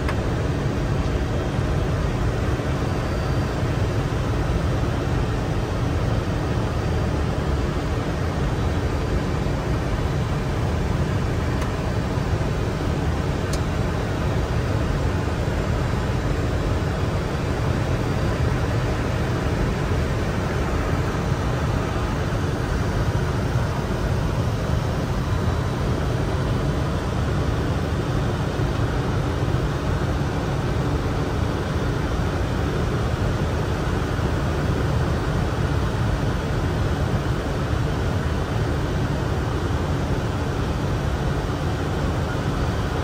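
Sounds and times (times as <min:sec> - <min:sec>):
cockpit airflow and air-conditioning rush: 0:00.0 - 0:43.0.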